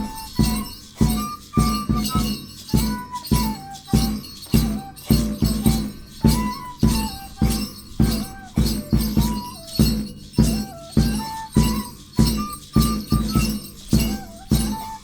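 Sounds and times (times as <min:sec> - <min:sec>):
harp melody: 0:00.0 - 0:15.0
jingling bells: 0:00.0 - 0:15.0.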